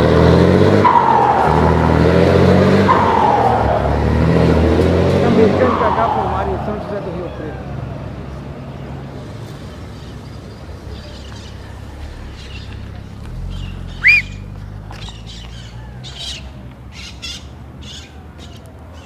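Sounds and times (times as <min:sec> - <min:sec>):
truck diesel engine idling: 0:00.0 - 0:18.3
birds chirping: 0:01.0 - 0:19.0.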